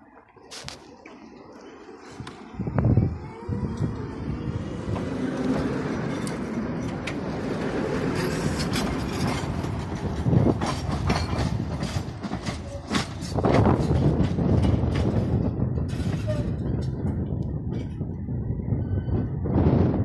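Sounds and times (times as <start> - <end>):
tram rumbling along track: 0.0 - 20.0
wheels clicking on rails: 0.2 - 18.1.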